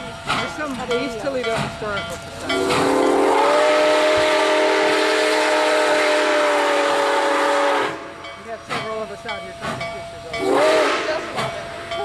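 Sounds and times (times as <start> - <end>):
steam locomotive chime whistle: 1.0 - 12.0.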